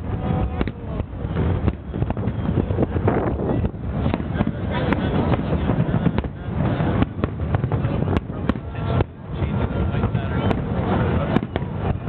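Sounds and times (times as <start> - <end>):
fireworks bangs: 0.0 - 12.0
low rumble: 0.0 - 12.0.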